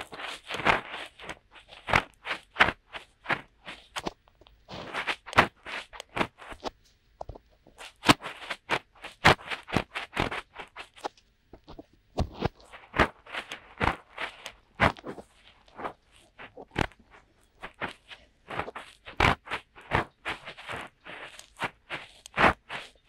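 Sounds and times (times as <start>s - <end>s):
fingertips scratching microphone: 0.0s - 6.8s, 7.4s - 23.0s.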